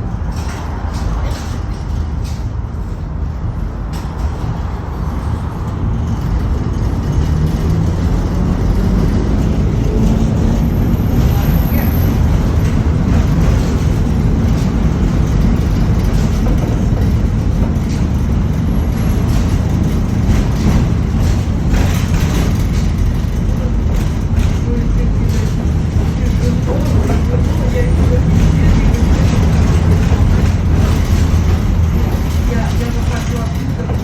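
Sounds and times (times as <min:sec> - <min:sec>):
tram wheels rumbling on rails: 0:00.0 - 0:34.0.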